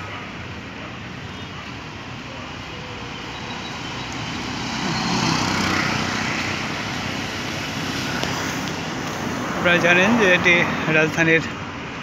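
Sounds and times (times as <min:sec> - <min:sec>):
vehicle passing on road: 0:01.2 - 0:12.0.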